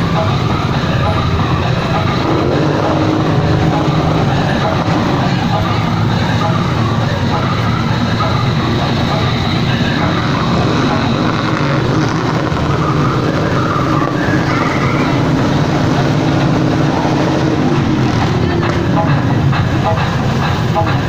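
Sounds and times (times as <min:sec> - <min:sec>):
motorcycle engines running: 0:00.0 - 0:21.0.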